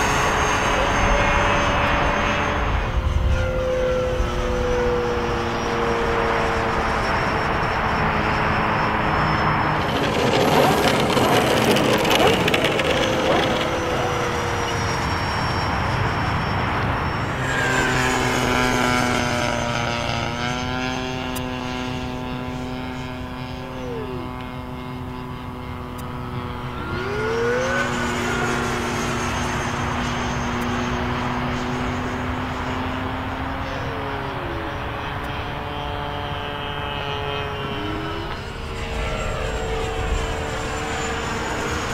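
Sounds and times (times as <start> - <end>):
electric ducted fan whining: 0.0 - 41.9.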